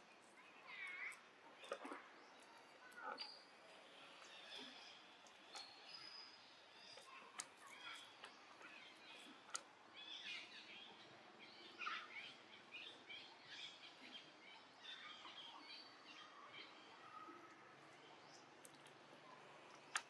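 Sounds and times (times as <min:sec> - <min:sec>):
faint high-pitched chirping: 0:00.6 - 0:20.0.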